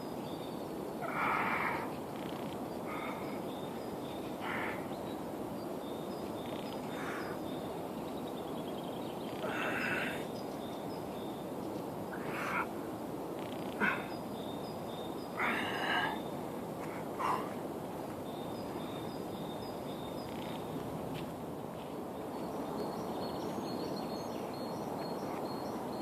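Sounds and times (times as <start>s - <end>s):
background hiss: 0.0s - 26.0s
small birds chirping: 0.0s - 26.0s.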